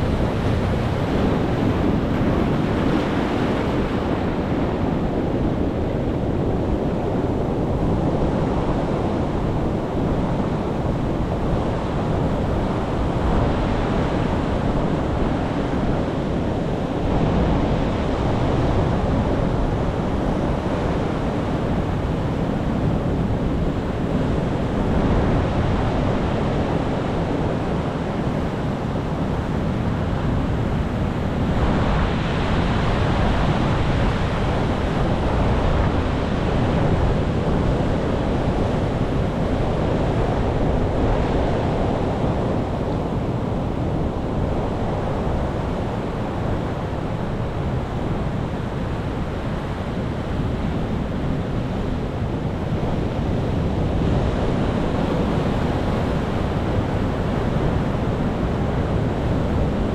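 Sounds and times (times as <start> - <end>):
waves breaking on shore: 0.0 - 59.9.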